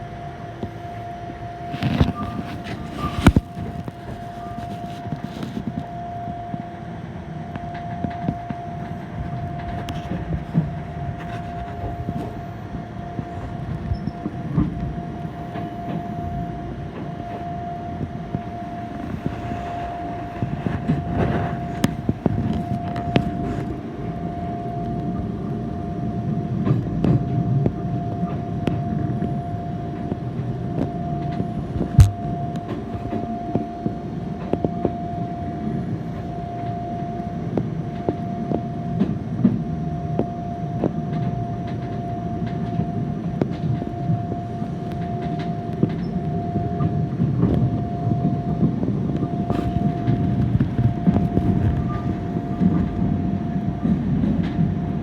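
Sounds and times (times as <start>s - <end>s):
thin constant whine: 0.0s - 55.0s
train wheels rumbling on rails: 0.0s - 55.0s.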